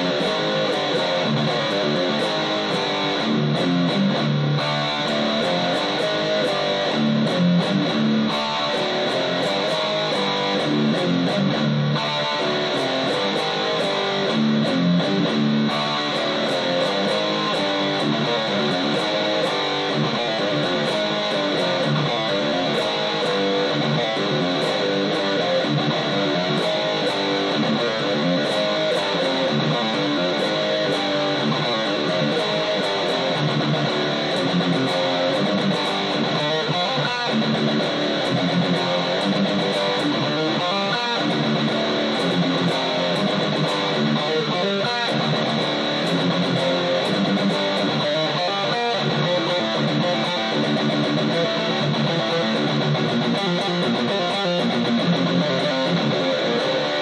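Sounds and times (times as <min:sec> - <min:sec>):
electric guitar picked notes: 0:00.0 - 0:57.0.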